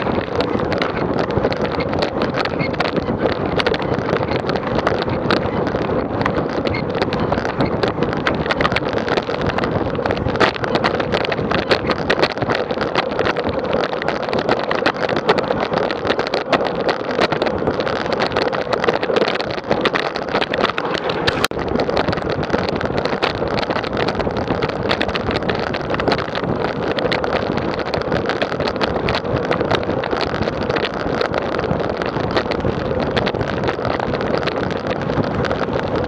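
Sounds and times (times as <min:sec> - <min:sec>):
wind and road noise: 0:00.0 - 0:36.0
wind buffeting microphone: 0:00.0 - 0:36.0.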